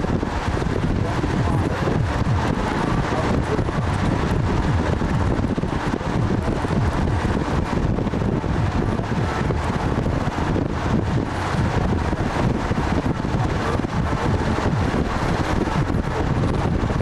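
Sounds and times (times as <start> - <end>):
vehicle rumble: 0.0 - 17.0
wind buffeting microphone: 0.0 - 17.0.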